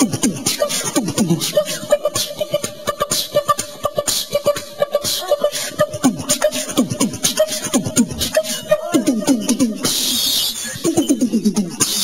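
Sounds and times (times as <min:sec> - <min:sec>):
boy beatboxing: 0:00.0 - 0:12.0.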